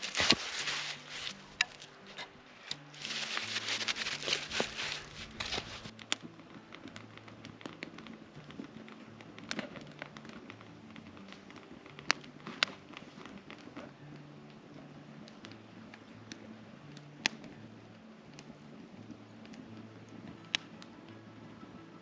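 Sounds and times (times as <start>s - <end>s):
campfire crackling and popping: 0.0s - 22.0s
soft background music: 0.0s - 22.0s.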